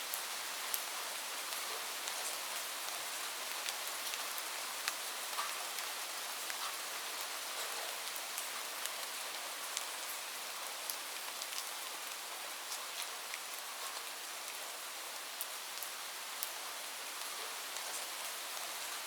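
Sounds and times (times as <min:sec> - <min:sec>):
light rain falling: 0:00.0 - 0:19.0.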